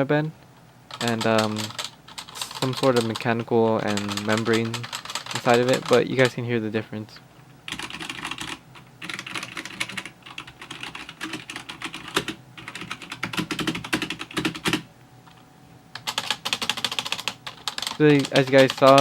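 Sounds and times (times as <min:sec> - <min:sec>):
plasticky keyboard typing: 0:00.9 - 0:06.3, 0:07.7 - 0:14.8, 0:16.0 - 0:19.0.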